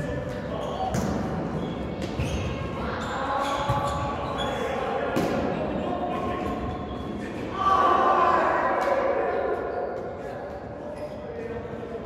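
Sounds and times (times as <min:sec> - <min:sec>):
players' voices: 0:00.0 - 0:12.0.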